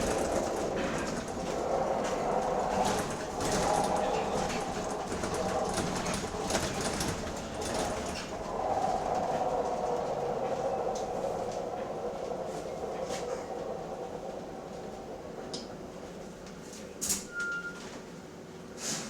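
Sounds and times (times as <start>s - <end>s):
bus whine: 0.0s - 18.5s.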